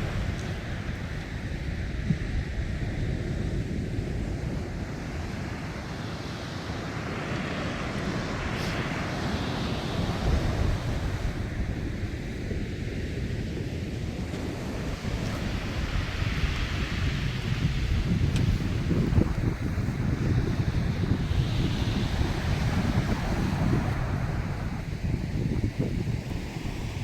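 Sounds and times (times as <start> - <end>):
sea waves washing in: 0.0 - 27.0
wind rumbling on microphone: 0.0 - 27.0.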